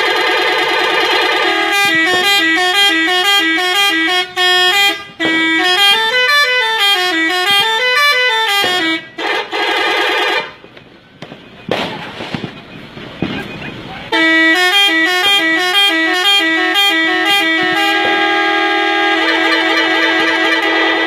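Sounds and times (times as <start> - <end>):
long car horn honk: 0.0 - 10.6, 14.1 - 21.0
musical car horn melody: 0.0 - 10.6, 14.1 - 21.0.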